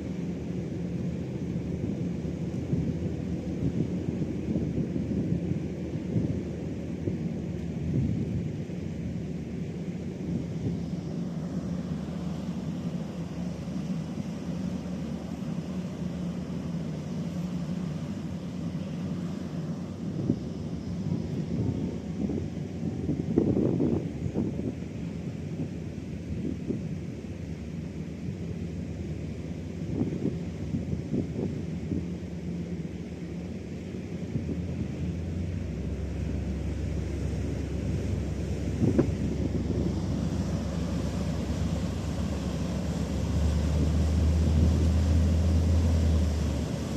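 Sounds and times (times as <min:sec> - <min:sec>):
boat engine rumbling: 0:00.0 - 0:46.9
wind buffeting microphone: 0:00.0 - 0:46.9.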